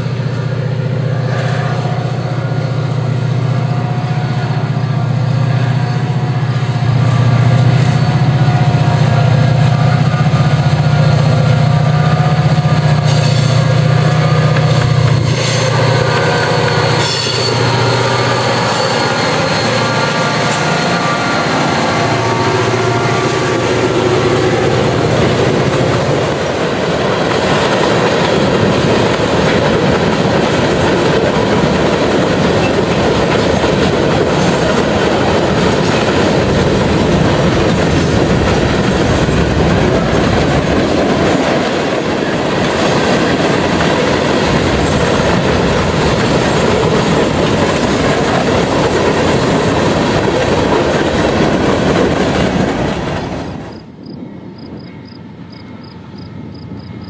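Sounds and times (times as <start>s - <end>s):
train wheels clattering: 0.0s - 54.2s
diesel locomotive engines droning: 0.0s - 57.0s.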